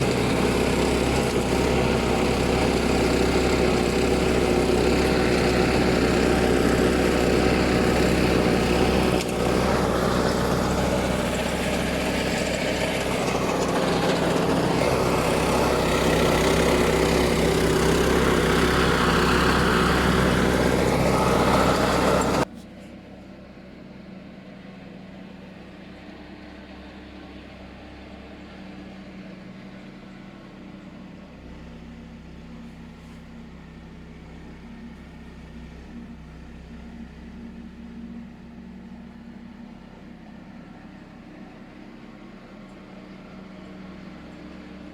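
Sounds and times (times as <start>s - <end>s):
faint engine hum: 0.0s - 44.9s
walk-behind tractor engine running: 0.0s - 44.9s.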